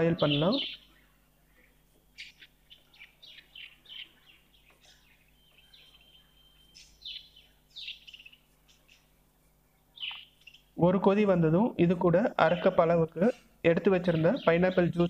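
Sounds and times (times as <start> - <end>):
faint steady hum: 0.0 - 15.0
small birds chirping: 0.0 - 15.0.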